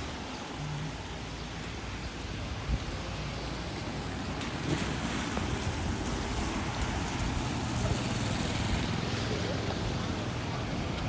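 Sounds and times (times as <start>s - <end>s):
heavy rain on a street: 0.0s - 11.0s.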